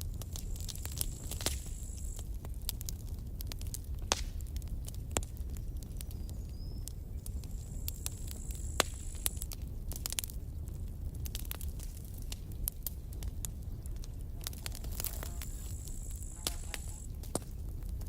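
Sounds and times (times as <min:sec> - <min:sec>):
campfire crackling and popping: 0:00.0 - 0:18.0
low rumble of flame: 0:00.0 - 0:18.0.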